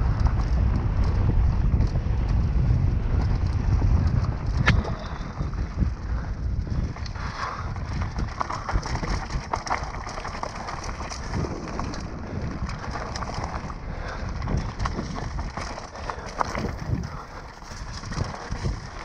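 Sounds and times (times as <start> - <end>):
bike clattering over bumps: 0.0 - 19.0
low rumble: 0.0 - 19.0
tyres crunching over dirt and stones: 0.1 - 19.0.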